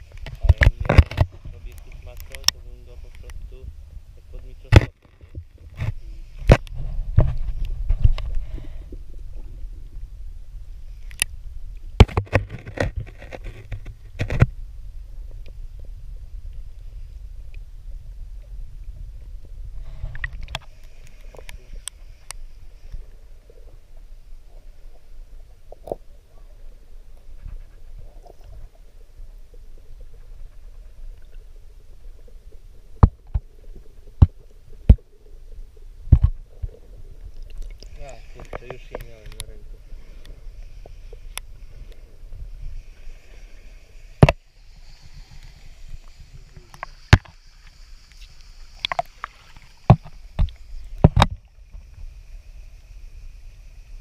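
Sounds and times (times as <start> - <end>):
underwater water rumble: 0.0 - 54.0.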